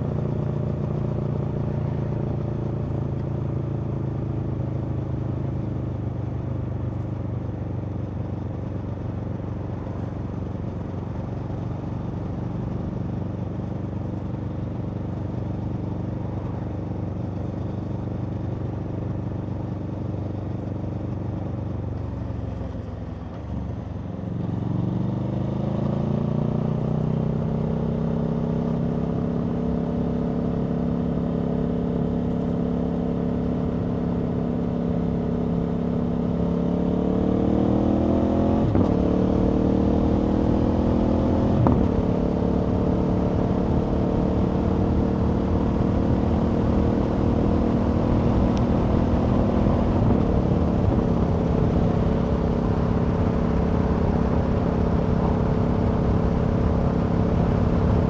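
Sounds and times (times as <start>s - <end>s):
motorcycle engine running: 0.0s - 27.6s, 28.4s - 58.0s.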